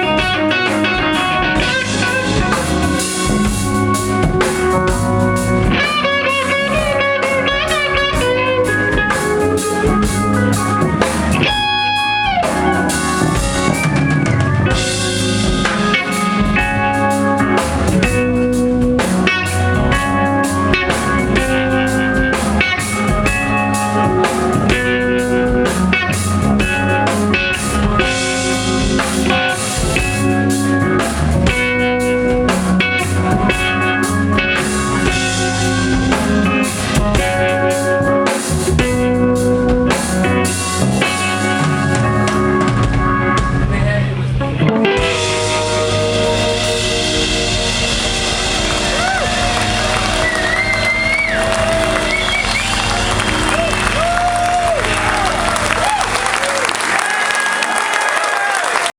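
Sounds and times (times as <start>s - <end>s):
electric guitar lead with bent notes: 0.0s - 56.9s
drum kit beat: 0.0s - 57.2s.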